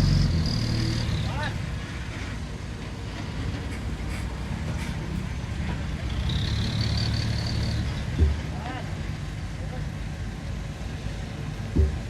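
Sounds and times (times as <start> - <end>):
diesel machinery engine drone: 0.0 - 12.0.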